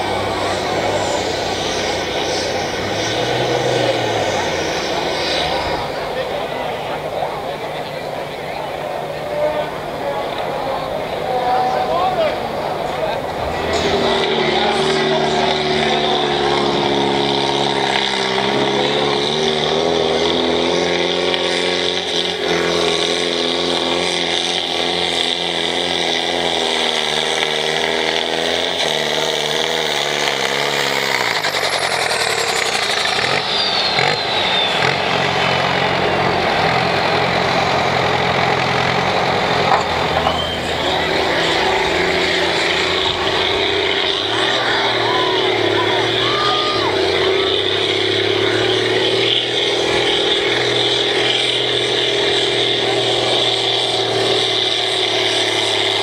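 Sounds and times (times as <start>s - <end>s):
tractor diesel engine under load: 0.0s - 56.0s
tractor engine starting: 0.0s - 56.0s.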